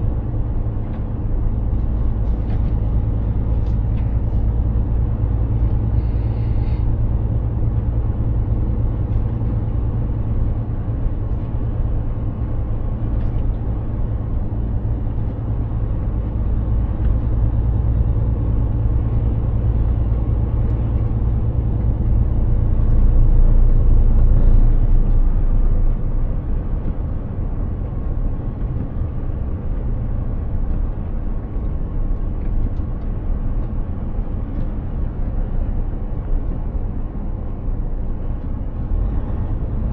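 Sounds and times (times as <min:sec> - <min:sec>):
truck diesel engine drone: 0:00.0 - 0:39.9
tyre and road noise: 0:00.0 - 0:39.9.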